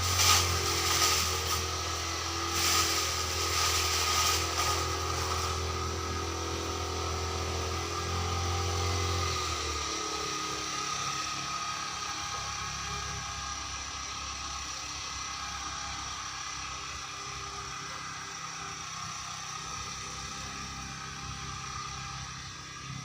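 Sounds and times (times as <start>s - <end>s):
brush cutter engine running: 0.0s - 23.0s.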